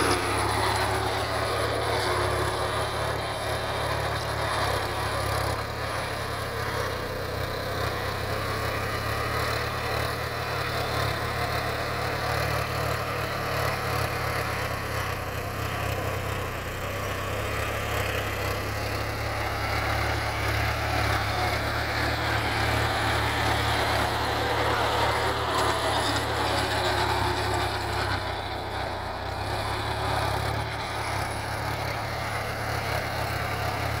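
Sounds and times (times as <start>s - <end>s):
tiller blades churning soil: 0.0s - 34.0s
tractor diesel engine: 0.0s - 34.0s.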